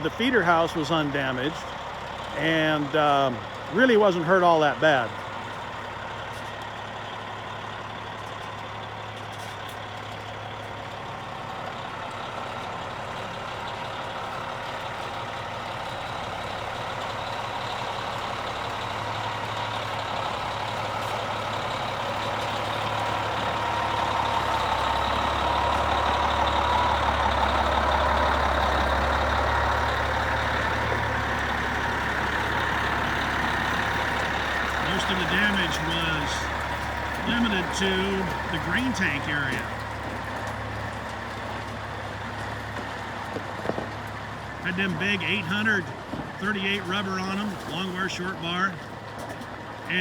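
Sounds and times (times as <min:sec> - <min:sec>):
heavy diesel engine running: 0:00.0 - 0:50.0.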